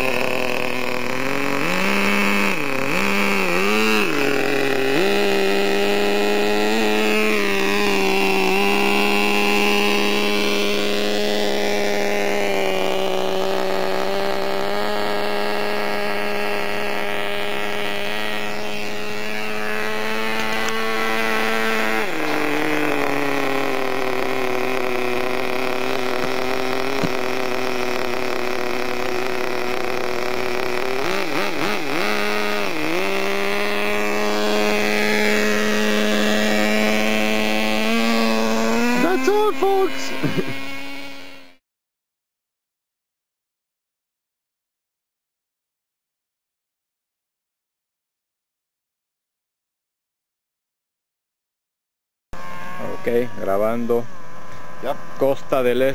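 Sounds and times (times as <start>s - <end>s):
small glow engine running high-pitched: 0.0s - 41.6s, 52.4s - 55.9s.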